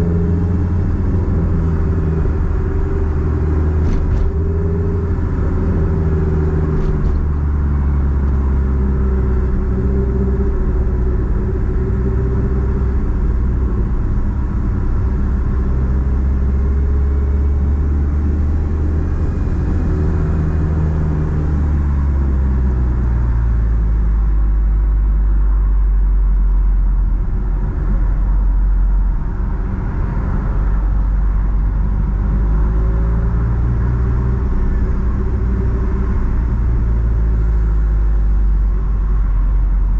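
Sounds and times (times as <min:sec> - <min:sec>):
car engine rumbling through exhaust: 0:00.0 - 0:39.9.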